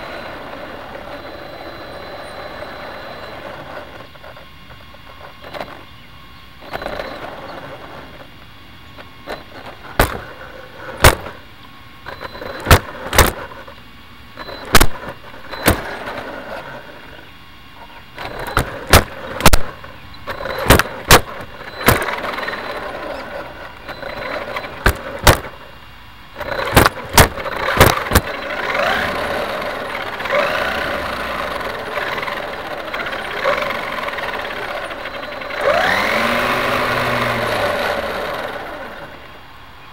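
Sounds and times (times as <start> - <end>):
motor whine: 0.0 - 39.9
rc car knocking and clattering: 2.6 - 5.9, 6.6 - 11.4, 12.1 - 13.8, 14.4 - 16.9, 17.8 - 25.7, 26.4 - 39.1.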